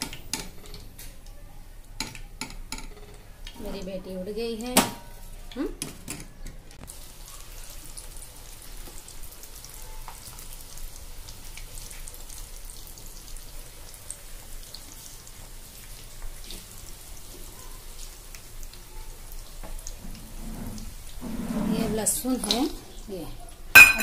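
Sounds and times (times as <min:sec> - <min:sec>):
deep-frying sizzle and pops: 0:00.0 - 0:20.2.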